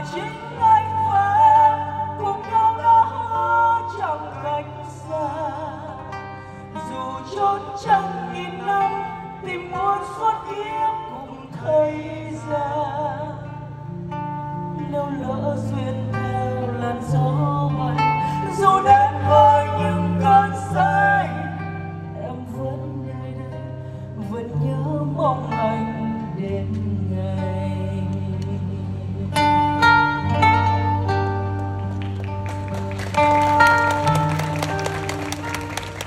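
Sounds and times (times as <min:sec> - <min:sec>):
woman singing with vibrato: 0:00.0 - 0:13.8, 0:14.6 - 0:31.1
guitar and bass accompaniment: 0:00.0 - 0:36.0.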